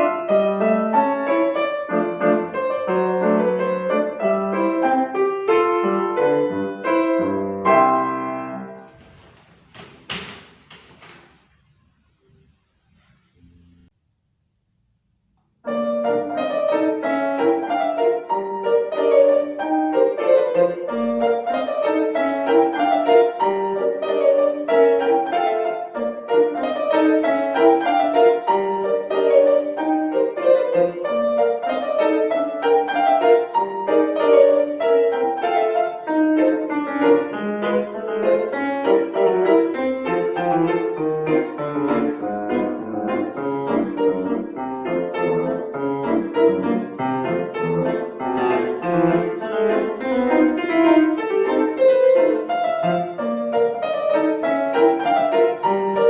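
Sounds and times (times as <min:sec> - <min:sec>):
classical piano piece: 0:00.0 - 0:13.9, 0:15.6 - 0:56.0.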